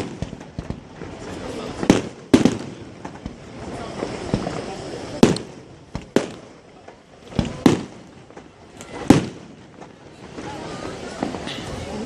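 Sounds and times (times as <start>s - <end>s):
fireworks bursting with bangs: 0.0s - 12.0s.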